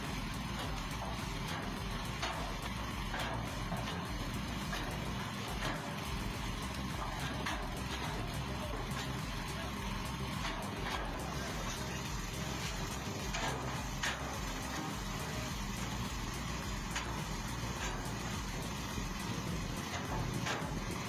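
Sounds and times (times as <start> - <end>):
engine rumbling: 0.0 - 21.0.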